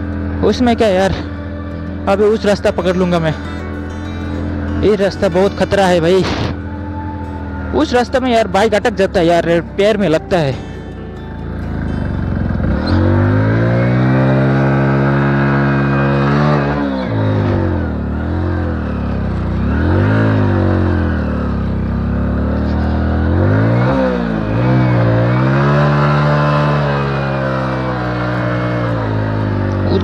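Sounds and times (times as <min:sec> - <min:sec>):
motorcycle engine under load: 0:00.0 - 0:30.0.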